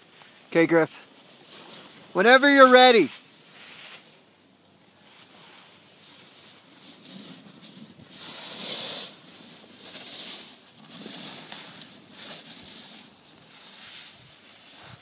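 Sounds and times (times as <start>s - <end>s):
skis swishing on snow: 0.0s - 4.4s, 5.0s - 15.0s.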